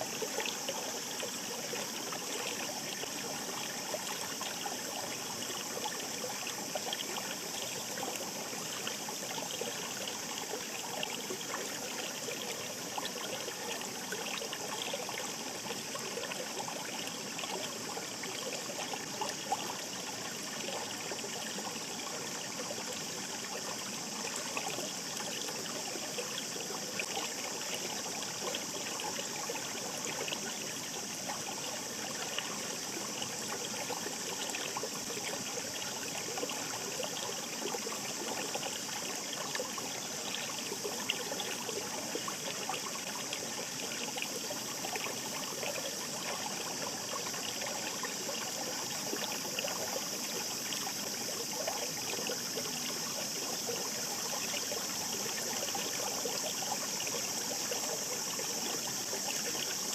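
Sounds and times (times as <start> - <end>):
mountain stream flowing: 0.0 - 59.9.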